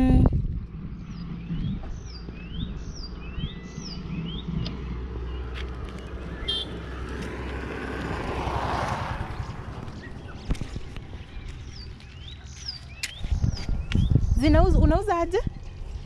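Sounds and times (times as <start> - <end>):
vehicle passing on road: 0.0 - 16.0
birds chirping: 0.6 - 16.0.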